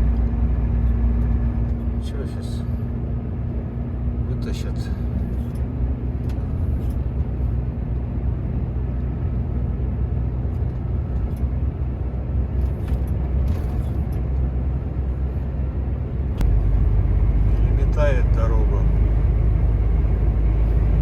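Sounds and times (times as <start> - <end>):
truck diesel engine drone: 0.0 - 21.0.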